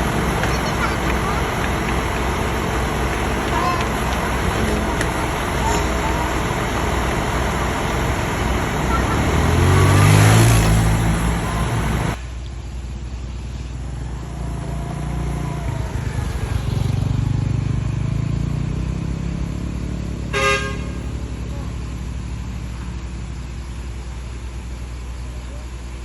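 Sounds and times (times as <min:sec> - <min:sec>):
heavy truck engine running: 0:00.0 - 0:26.0.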